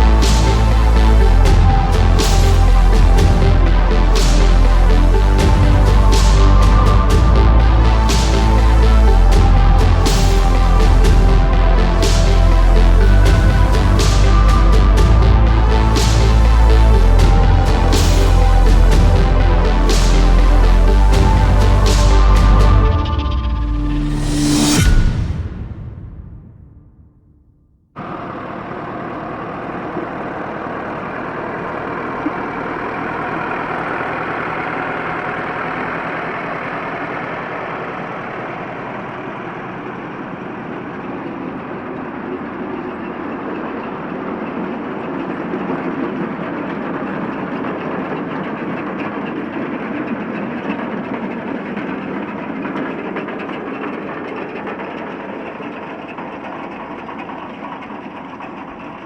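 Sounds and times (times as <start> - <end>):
tractor diesel engine running: 0.0 - 24.9, 28.0 - 59.0
harvester machinery clattering: 0.0 - 25.0, 28.0 - 59.0.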